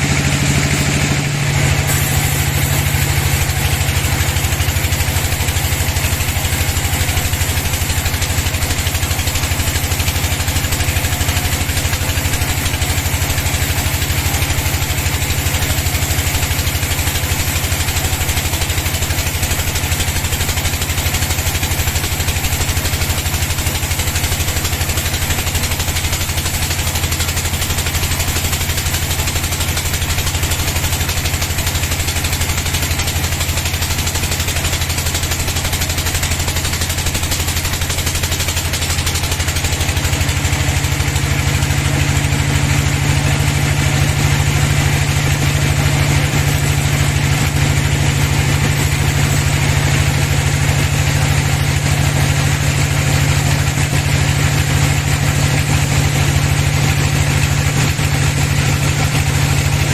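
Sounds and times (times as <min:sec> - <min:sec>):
band saw running: 0:00.0 - 0:59.9.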